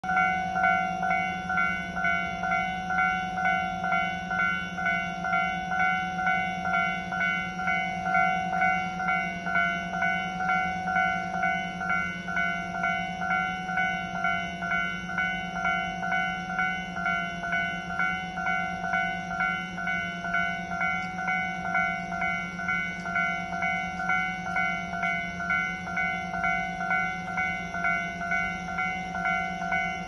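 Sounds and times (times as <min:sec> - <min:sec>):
level-crossing warning bell: 0:00.0 - 0:30.0.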